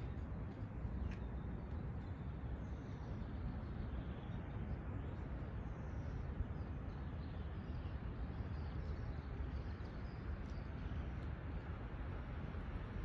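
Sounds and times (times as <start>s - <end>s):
faint birdsong: 0.0s - 12.3s.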